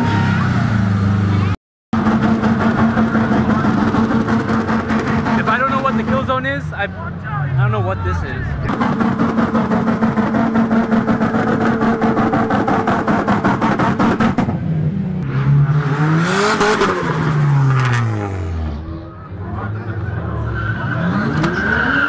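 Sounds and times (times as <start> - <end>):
tires squealing: 0.0 - 1.4, 2.0 - 14.6, 15.3 - 22.0
car engine revving: 0.0 - 6.7, 7.5 - 22.0.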